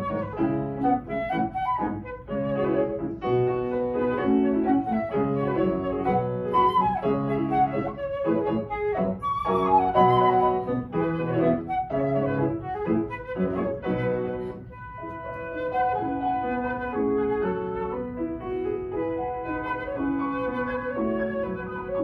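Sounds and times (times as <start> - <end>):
flute playing a melody: 0.0 - 22.0
piano accompaniment: 0.0 - 22.0.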